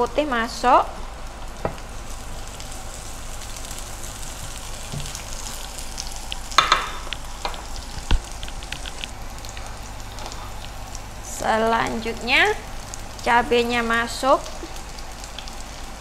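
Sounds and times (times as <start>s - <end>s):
shallots sizzling in hot oil: 0.0s - 16.0s.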